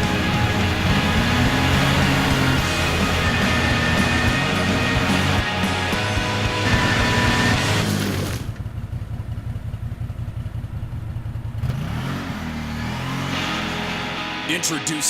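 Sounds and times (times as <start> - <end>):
engine running and revving: 0.0 - 15.0.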